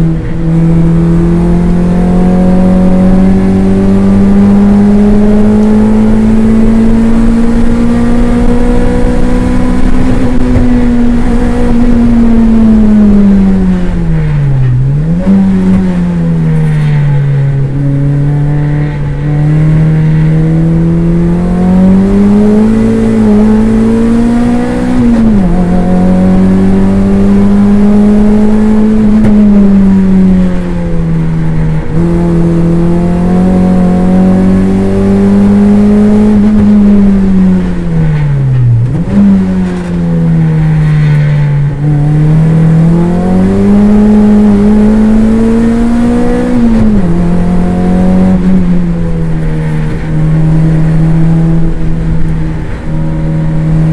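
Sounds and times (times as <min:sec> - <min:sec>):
race car engine accelerating: 0:00.0 - 0:53.9.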